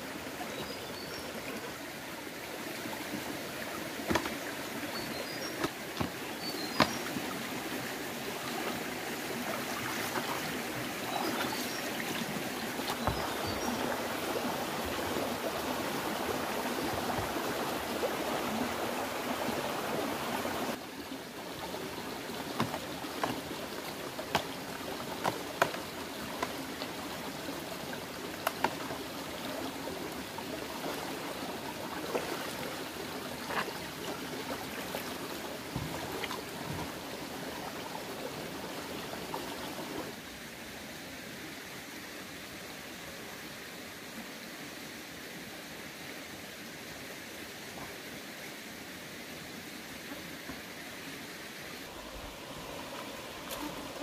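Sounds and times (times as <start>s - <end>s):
shallow stream flowing over rocks: 0.0s - 54.0s.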